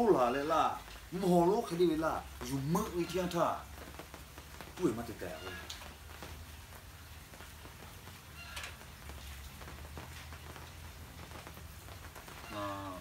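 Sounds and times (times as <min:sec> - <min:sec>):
light rain pattering on roof: 0:00.0 - 0:13.0.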